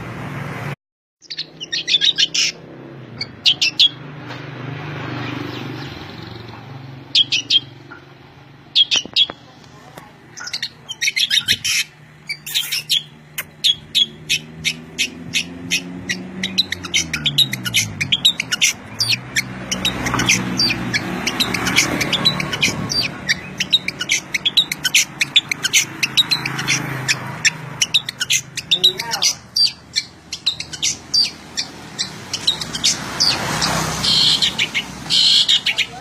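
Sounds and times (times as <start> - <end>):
songbird chirping: 1.2 - 36.0.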